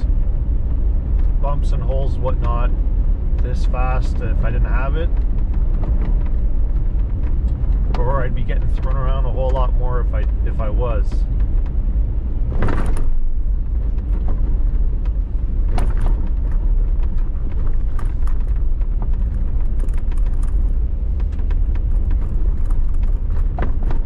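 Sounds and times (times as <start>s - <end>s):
engine and tyres rumbling: 0.0s - 24.0s
vehicle knocks and rattles: 0.0s - 24.0s.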